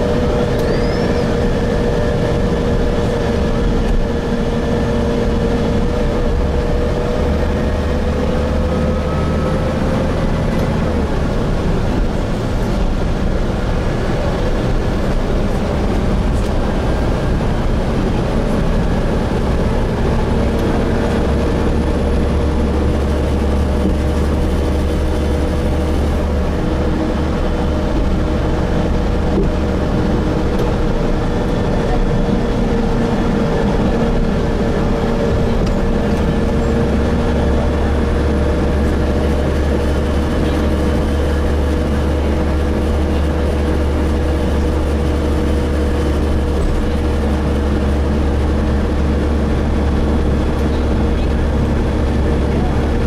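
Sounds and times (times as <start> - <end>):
bus engine and road noise drone: 0.0 - 53.0
deep hum: 0.0 - 53.0.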